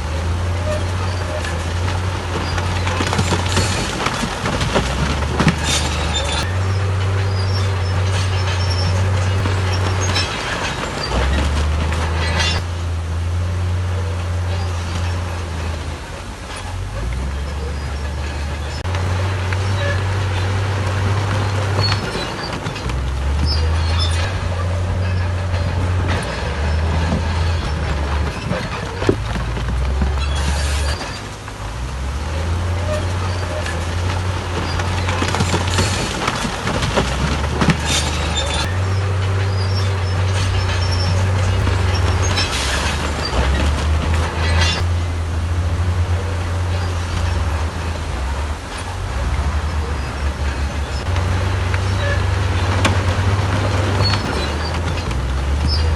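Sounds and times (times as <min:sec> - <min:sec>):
clattering and scraping: 0:00.0 - 0:55.9
diesel machinery engine drone: 0:00.0 - 0:55.9.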